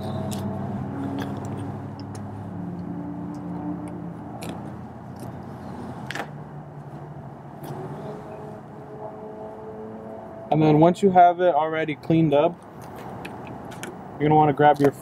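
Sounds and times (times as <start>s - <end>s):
vehicle engine humming: 0.0s - 14.6s.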